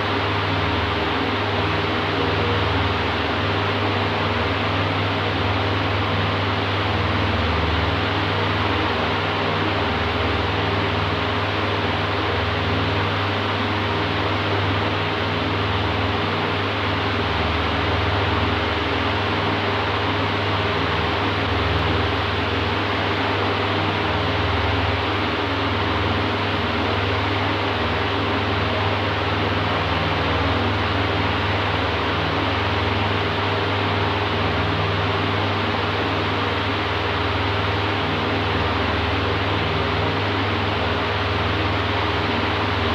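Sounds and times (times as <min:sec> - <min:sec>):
electric fan air rush: 0:00.0 - 0:42.9.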